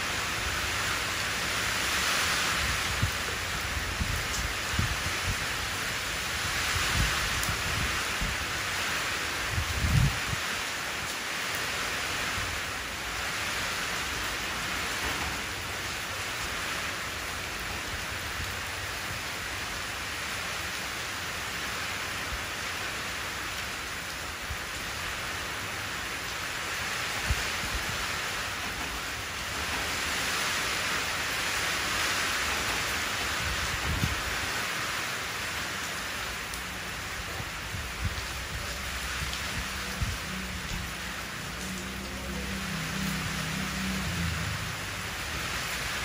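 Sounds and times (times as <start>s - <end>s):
rain splashing into a puddle: 0.0s - 46.0s.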